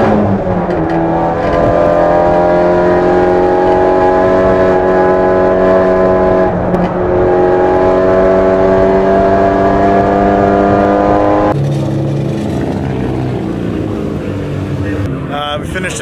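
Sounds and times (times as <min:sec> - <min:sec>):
race car engine accelerating: 0:00.0 - 0:15.3.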